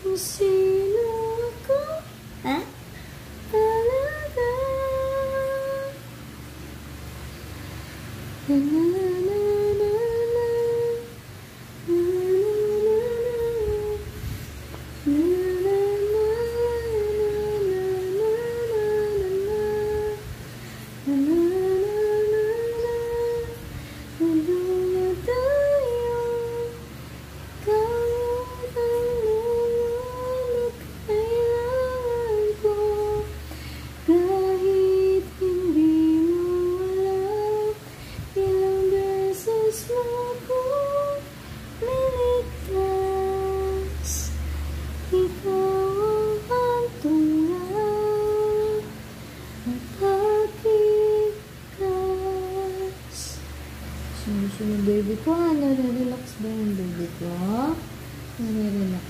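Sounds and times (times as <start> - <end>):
woman humming a slow melody: 0.0 - 2.8, 3.5 - 6.1, 8.4 - 11.2, 11.8 - 14.4, 15.0 - 20.4, 21.0 - 26.9, 27.6 - 44.4, 45.1 - 49.0, 49.6 - 53.4, 54.2 - 59.0.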